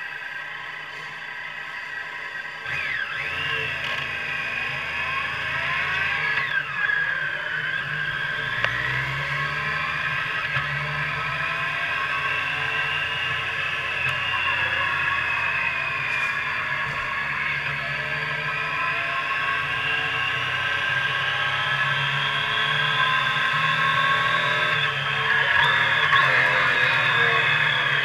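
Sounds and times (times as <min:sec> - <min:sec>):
motorcycle engine accelerating: 0:02.2 - 0:28.0.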